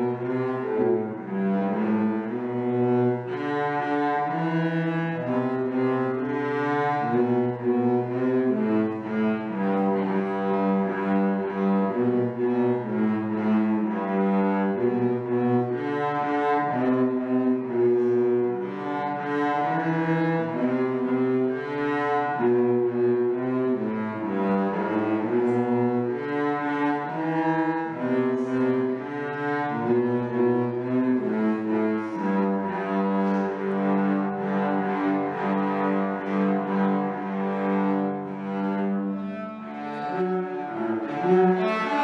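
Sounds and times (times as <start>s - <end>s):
two cellos playing a duet: 0.0s - 42.0s.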